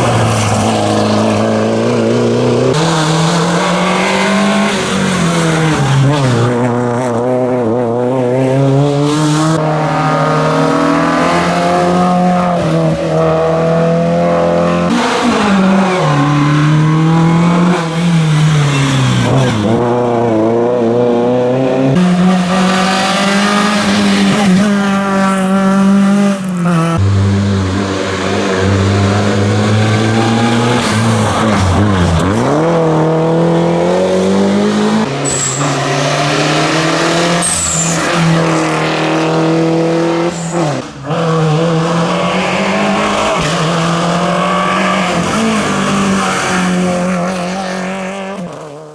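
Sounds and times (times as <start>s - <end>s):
rally car engines revving: 0.0s - 48.9s.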